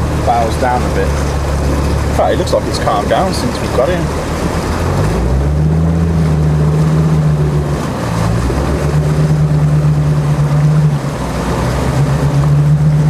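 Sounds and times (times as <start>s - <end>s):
diesel engine running under load: 0.0s - 13.0s
water washing: 0.0s - 13.0s.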